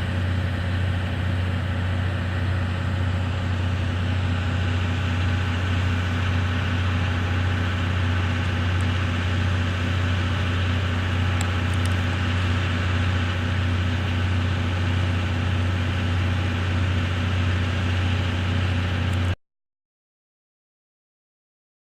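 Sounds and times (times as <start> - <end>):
low mechanical hum: 0.0 - 19.4.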